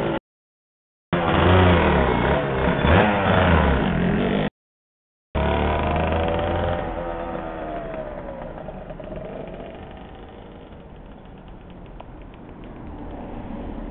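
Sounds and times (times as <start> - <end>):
motorcycle riding away: 1.2 - 4.5, 5.4 - 13.9.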